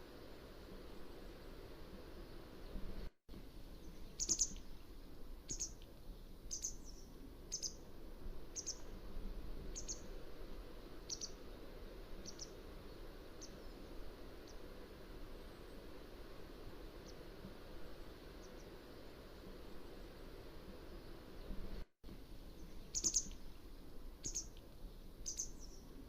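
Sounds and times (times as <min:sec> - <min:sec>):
steady low background noise: 0:00.0 - 0:26.0.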